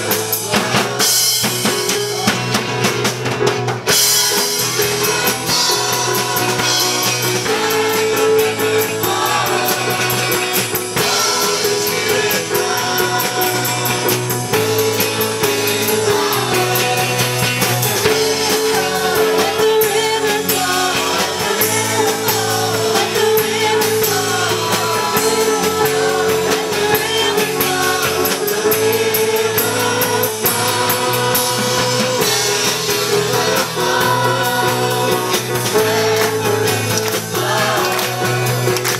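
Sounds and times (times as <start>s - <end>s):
voices singing: 0.0s - 3.1s, 3.9s - 38.9s
band with drums and guitar: 0.0s - 38.9s.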